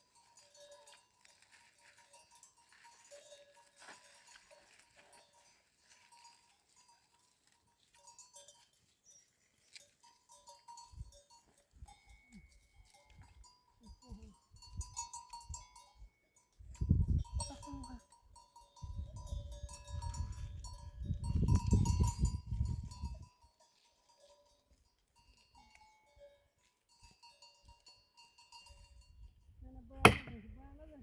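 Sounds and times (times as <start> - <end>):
livestock bells clinking: 0.0 - 30.2.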